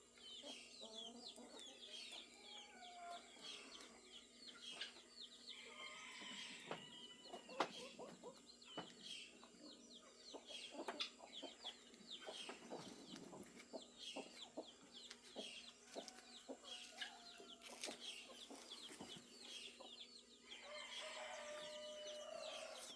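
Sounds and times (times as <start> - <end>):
chickens clucking: 0.0 - 22.9
small birds chirping: 0.0 - 22.9.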